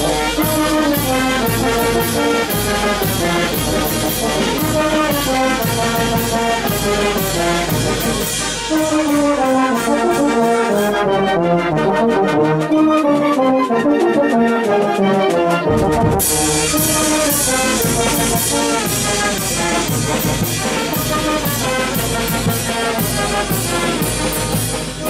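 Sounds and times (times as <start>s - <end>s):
steady percussion beat: 0.0s - 11.2s, 15.6s - 25.0s
brass band playing: 0.0s - 25.0s.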